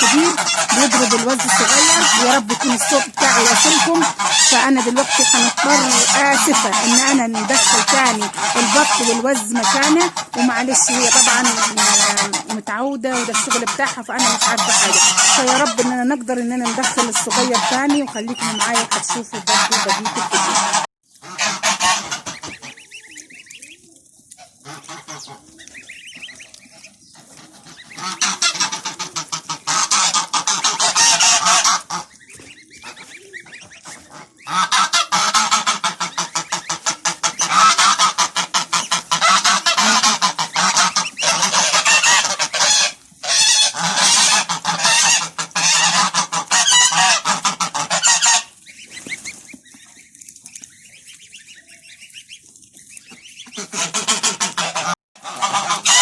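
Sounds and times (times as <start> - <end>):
geese honking: 0.0 - 56.0.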